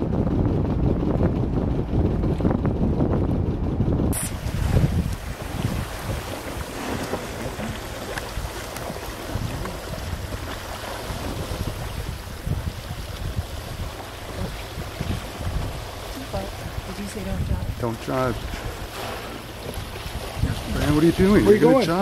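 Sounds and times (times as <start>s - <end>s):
wind buffeting microphone: 0.0s - 22.0s
water sloshing and lapping: 4.1s - 22.0s.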